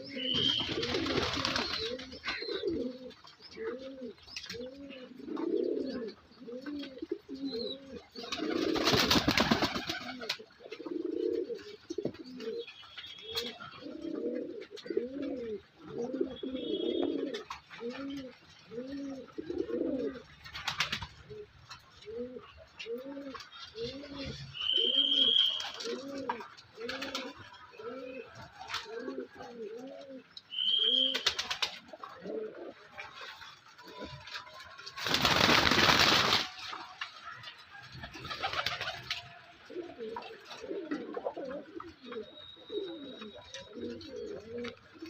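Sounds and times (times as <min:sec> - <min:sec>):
pigeons cooing: 0:00.0 - 0:12.7, 0:13.3 - 0:20.4, 0:21.0 - 0:34.4, 0:37.5 - 0:45.0.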